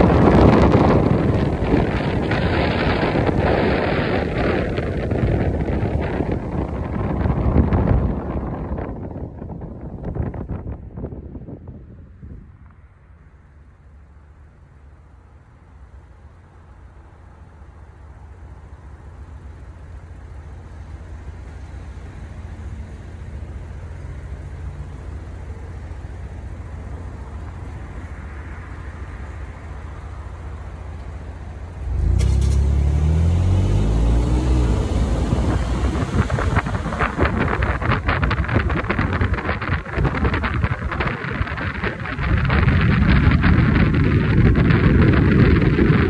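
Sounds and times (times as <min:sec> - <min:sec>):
engine rumble rising: 0:00.0 - 0:46.0.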